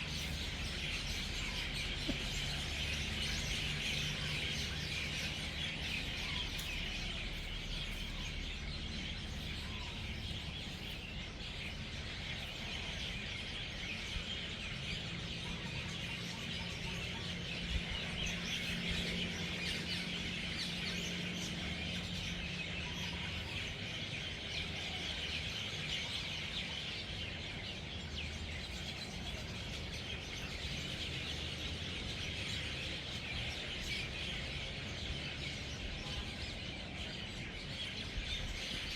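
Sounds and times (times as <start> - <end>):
flock of birds chirping: 0.0 - 38.9.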